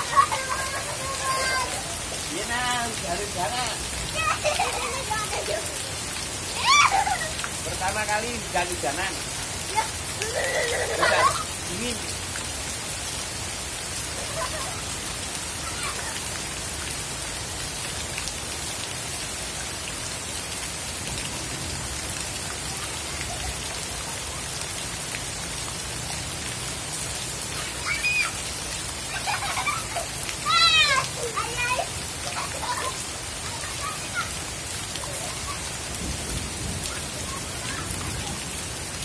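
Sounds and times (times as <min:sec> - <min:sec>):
heavy rain on water: 0:00.0 - 0:39.0.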